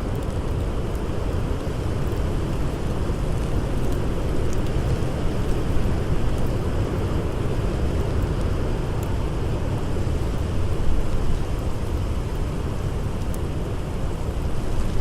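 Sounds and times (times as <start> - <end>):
campfire crackles: 0.0 - 15.0.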